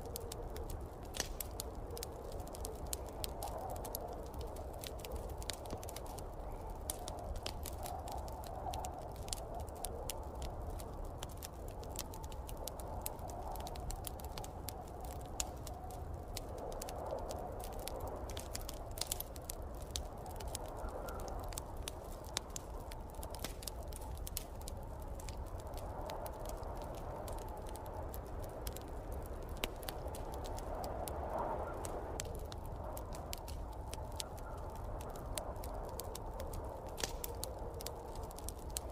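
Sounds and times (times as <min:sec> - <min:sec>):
snowstorm wind: 0:00.0 - 0:38.9
wood fire crackling: 0:00.0 - 0:38.9.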